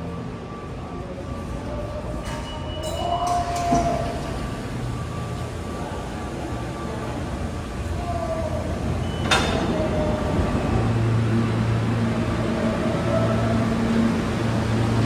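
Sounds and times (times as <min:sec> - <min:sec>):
station rumble: 0:00.0 - 0:15.0.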